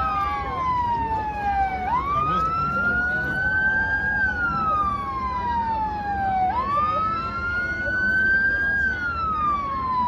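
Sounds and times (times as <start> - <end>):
emergency siren wailing: 0.0 - 10.0.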